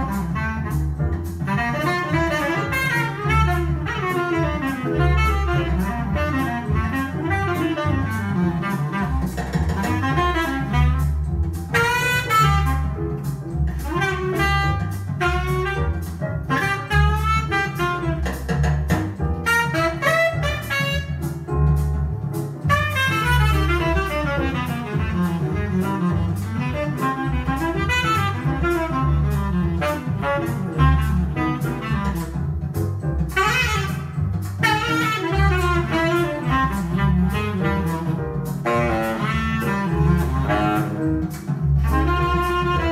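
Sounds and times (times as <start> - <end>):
double bass line: 0.0 - 42.9
jazz saxophone: 0.0 - 42.9.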